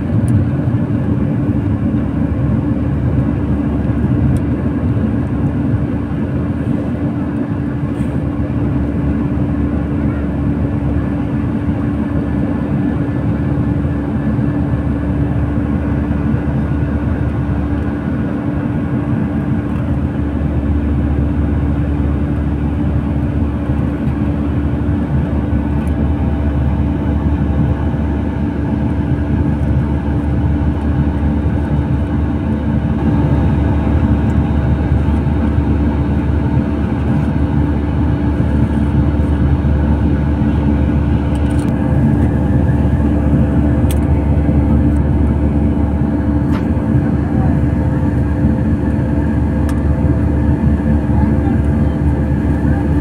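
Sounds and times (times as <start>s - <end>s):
jet engines droning in cabin: 0.0s - 53.0s.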